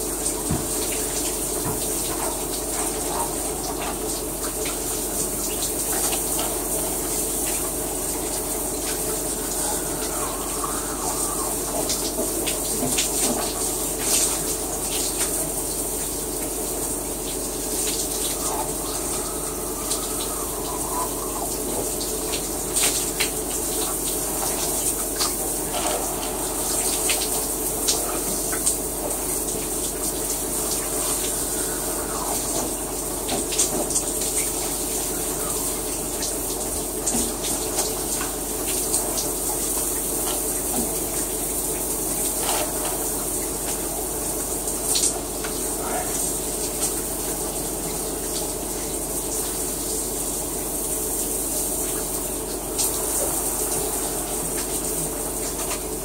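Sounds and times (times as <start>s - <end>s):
shower spray running: 0.0s - 56.0s
water splashes and drips: 0.0s - 56.0s.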